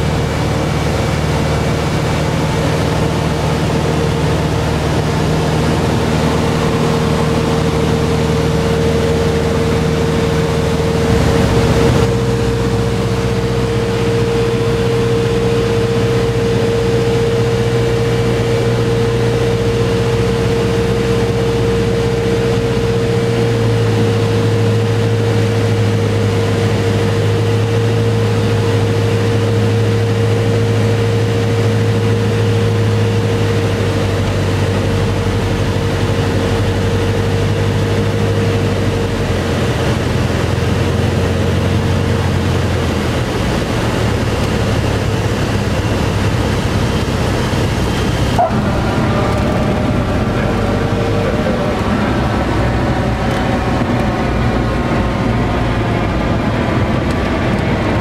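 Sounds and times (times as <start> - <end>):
airplane engine and propeller drone: 0.0 - 58.0.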